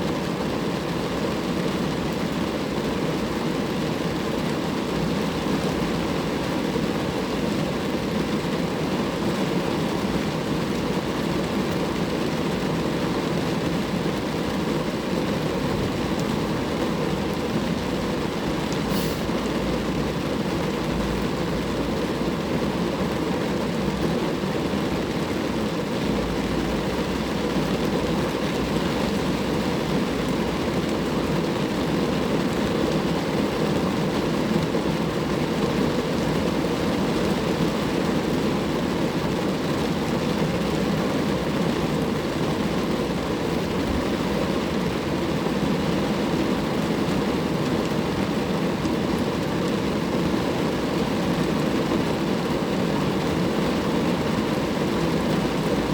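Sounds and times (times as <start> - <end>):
rain falling on a car: 0.0 - 55.9.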